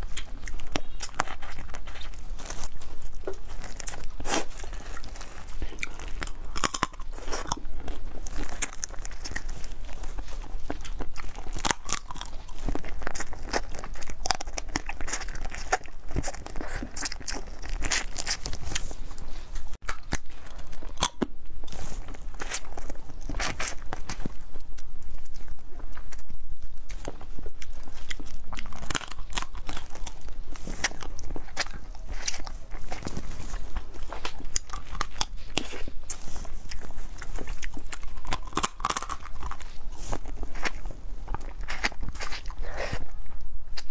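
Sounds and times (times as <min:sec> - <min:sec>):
crab shell crunching: 0:00.0 - 0:43.0.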